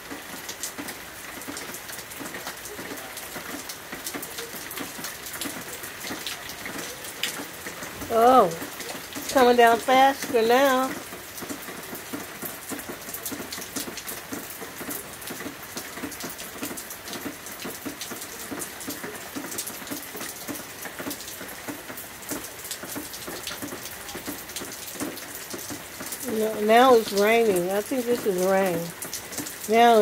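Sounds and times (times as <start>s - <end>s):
heavy rain on concrete: 0.0s - 30.0s.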